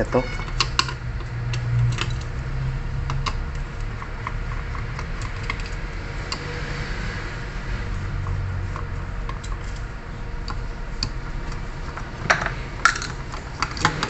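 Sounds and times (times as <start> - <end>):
steady low hum: 0.0 - 14.0
hand tools clicking and tapping: 0.2 - 2.4, 3.0 - 6.5, 8.1 - 14.0.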